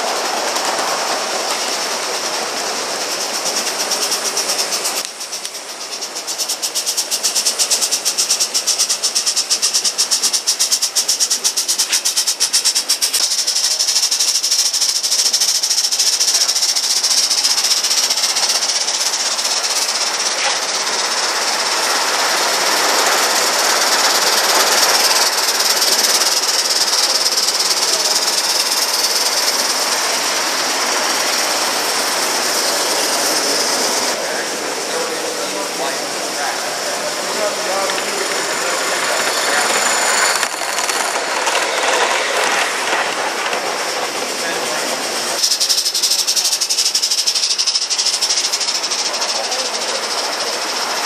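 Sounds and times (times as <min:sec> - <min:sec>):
model train wheels clicking: 0:00.0 - 0:51.0
steam hissing: 0:00.0 - 0:51.0.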